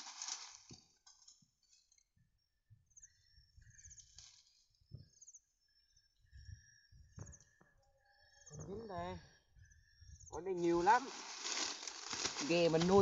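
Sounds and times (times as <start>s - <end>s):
small birds chirping: 0.7s - 13.0s.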